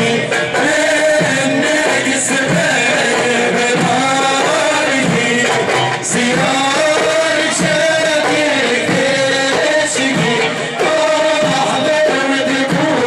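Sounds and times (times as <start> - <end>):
frame drums beating: 0.0 - 13.0
men singing: 0.0 - 13.0.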